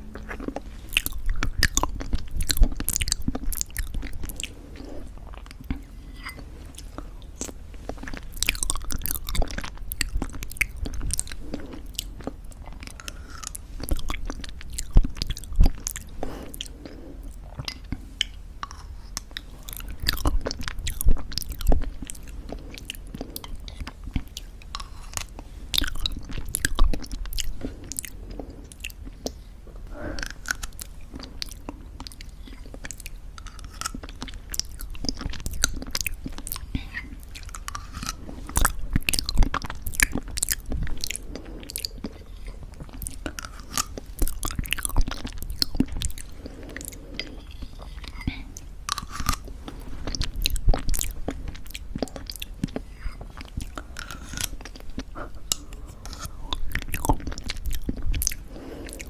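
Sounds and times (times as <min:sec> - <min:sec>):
crunchy chewing of granola: 0:00.0 - 0:59.0.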